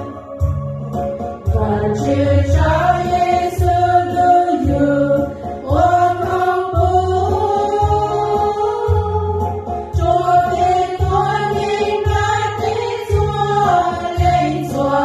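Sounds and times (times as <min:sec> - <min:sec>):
low bass notes: 0:00.0 - 0:12.4
women's group singing: 0:00.0 - 0:15.0.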